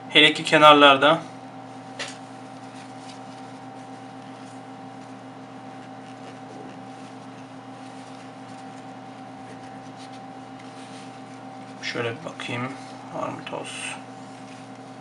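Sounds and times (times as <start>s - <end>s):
steady background hum: 0.0s - 15.0s
cloth wiping phone screen: 2.2s - 15.0s.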